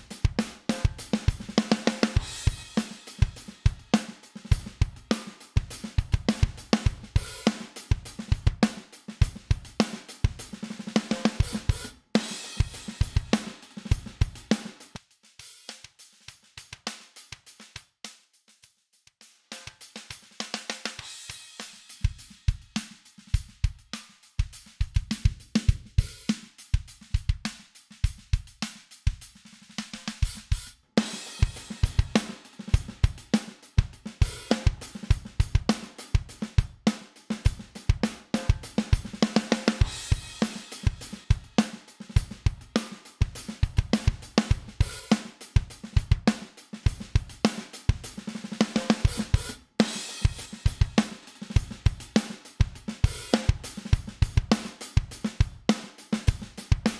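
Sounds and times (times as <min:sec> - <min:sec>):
drum kit playing a groove: 0:00.0 - 0:56.9.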